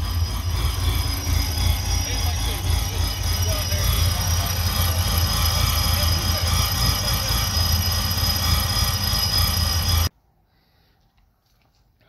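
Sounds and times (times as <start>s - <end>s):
car engine idling: 0.0s - 10.1s
high-pitched supercharger whine: 0.0s - 10.1s.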